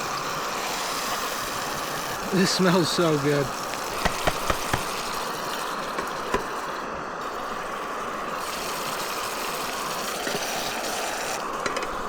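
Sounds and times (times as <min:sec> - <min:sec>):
camp stove hissing: 0:00.0 - 0:12.0.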